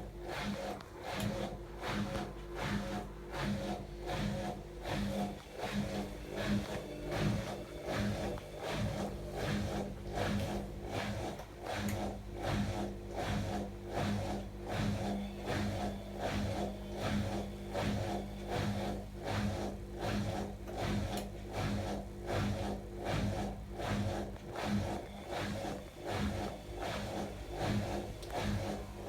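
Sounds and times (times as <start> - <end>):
washing machine motor hum: 0.0 - 29.0
washing machine drum swishing: 0.3 - 29.0.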